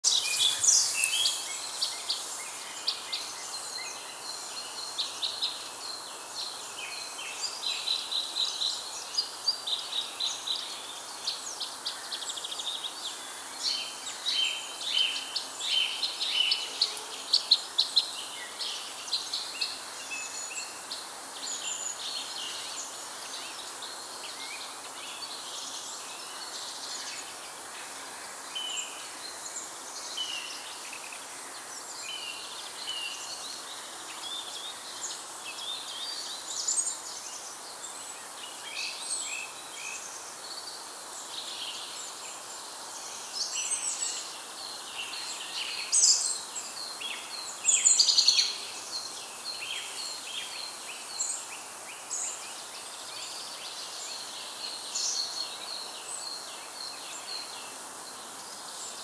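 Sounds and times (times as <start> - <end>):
songbirds chirping and twittering: 0.0 - 59.0
steady background hiss: 0.0 - 59.0.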